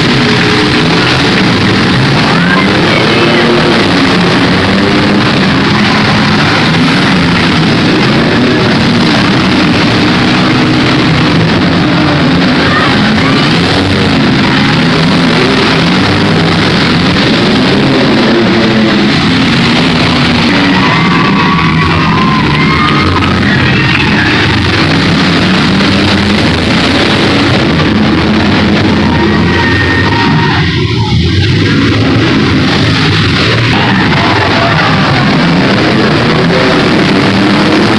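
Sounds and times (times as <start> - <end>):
car engines running: 0.0 - 37.9
loud rock music: 0.0 - 37.9.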